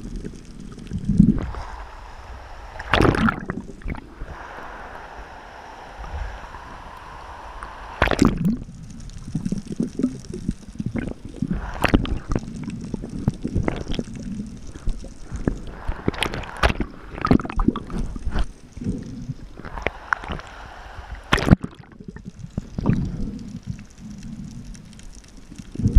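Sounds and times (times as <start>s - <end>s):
water sloshing and gurgling: 0.0s - 25.9s.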